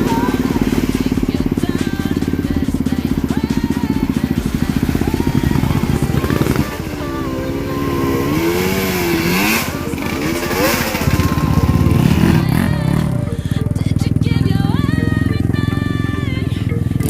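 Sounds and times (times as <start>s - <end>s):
atv engine revving: 0.0s - 17.0s
background music: 0.0s - 17.0s.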